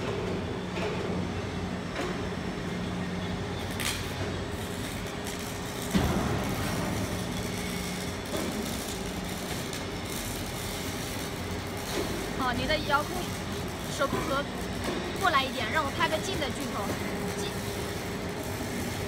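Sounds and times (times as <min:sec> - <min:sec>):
electric gear motors humming: 0:00.0 - 0:19.0.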